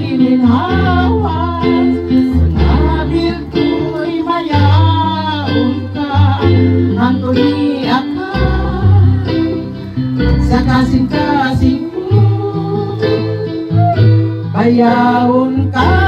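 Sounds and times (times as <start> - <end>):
instrumental backing music: 0.0 - 16.0
woman singing into microphone: 0.0 - 16.0.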